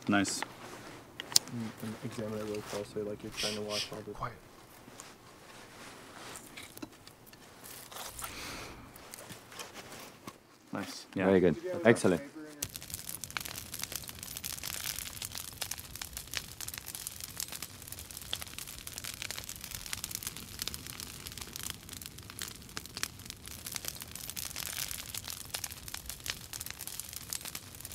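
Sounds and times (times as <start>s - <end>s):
soft hiss: 0.0s - 27.9s
wood fire crackling: 0.0s - 27.9s.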